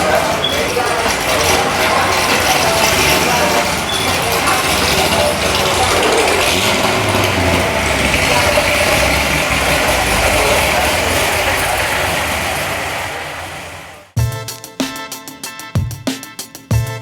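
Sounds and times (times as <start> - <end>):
engine clattering: 0.0 - 14.2.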